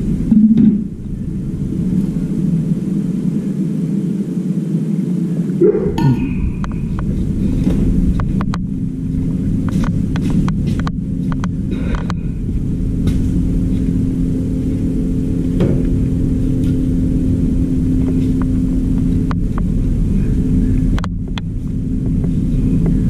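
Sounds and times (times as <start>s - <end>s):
machine droning: 0.0s - 23.0s.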